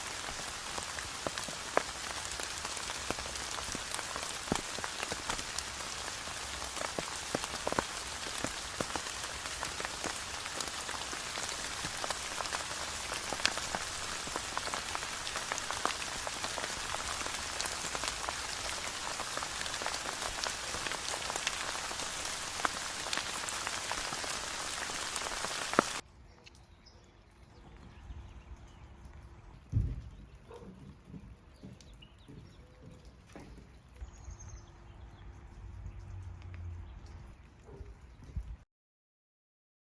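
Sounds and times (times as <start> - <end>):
steady rain falling: 0.0 - 26.1, 27.2 - 38.6.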